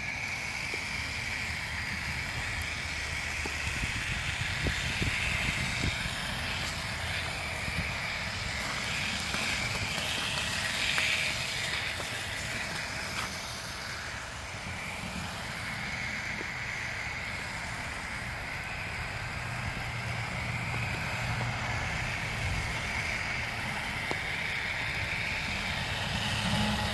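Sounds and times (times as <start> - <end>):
rc vehicle motor whine: 0.0 - 26.9.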